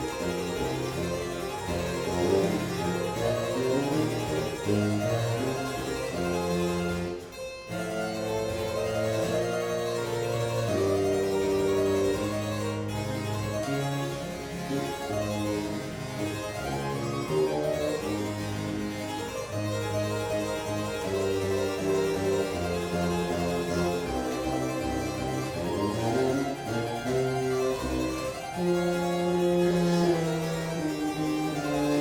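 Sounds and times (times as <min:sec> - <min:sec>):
bassoon: 0:00.0 - 0:32.0
harpsichord: 0:00.0 - 0:32.0.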